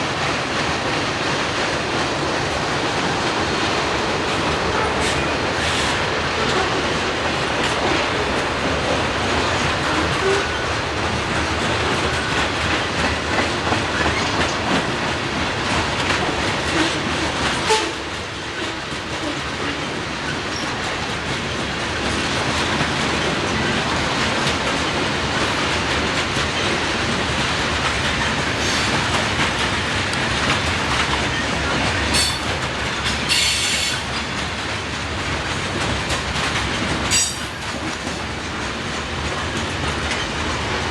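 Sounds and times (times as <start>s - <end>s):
clickety-clack over rail joints: 0.0s - 40.9s
train wheels rumbling on rail: 0.0s - 40.9s.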